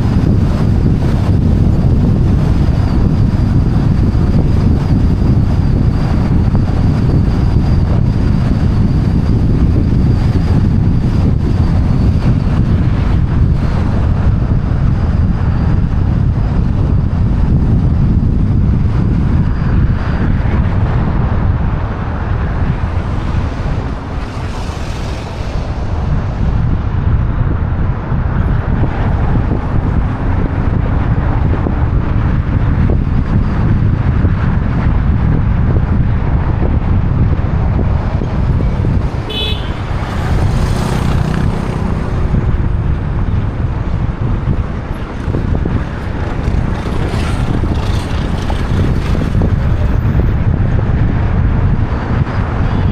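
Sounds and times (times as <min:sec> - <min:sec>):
road and traffic noise: 0:00.0 - 0:52.9
wind rumble on microphone: 0:00.0 - 0:52.9.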